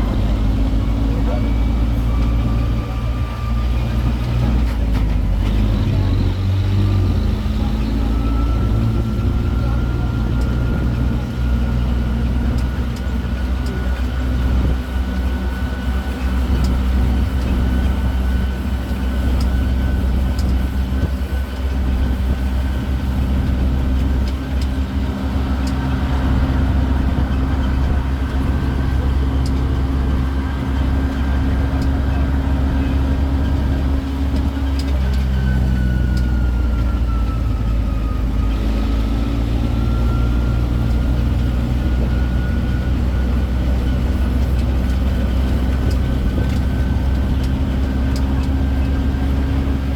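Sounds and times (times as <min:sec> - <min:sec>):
road train engine running: 0:00.0 - 0:49.9.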